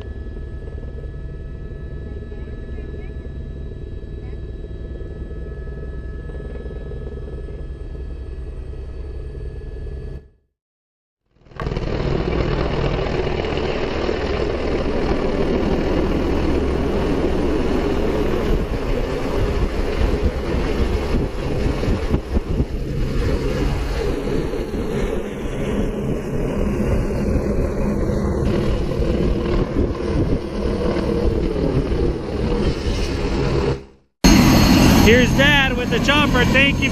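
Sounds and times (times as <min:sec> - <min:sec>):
helicopter engine and rotor: 0:00.0 - 0:10.3, 0:11.4 - 0:32.7, 0:33.3 - 0:36.9.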